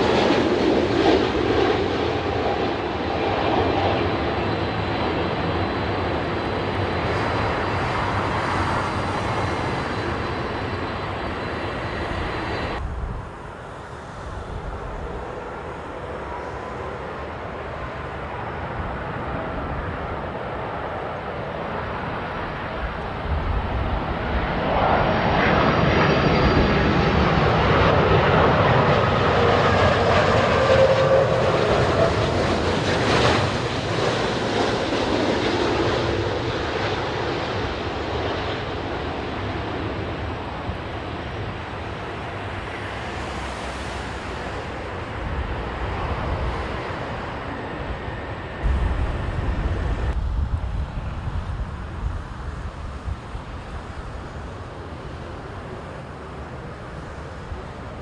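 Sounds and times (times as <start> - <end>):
jet airliner engines passing: 0.0 - 58.0.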